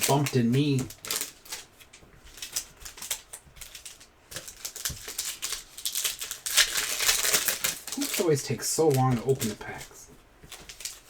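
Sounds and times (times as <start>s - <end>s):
card packs being torn open: 0.0s - 11.0s
cards being handled: 0.0s - 11.0s.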